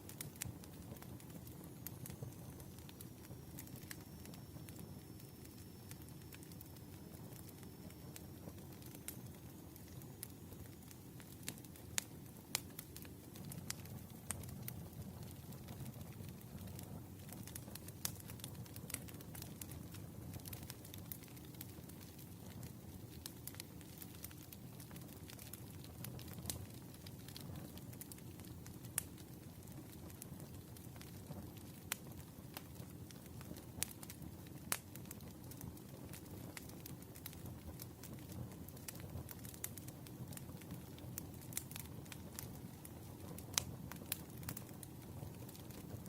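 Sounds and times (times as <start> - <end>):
campfire crackling and popping: 0.0 - 46.0.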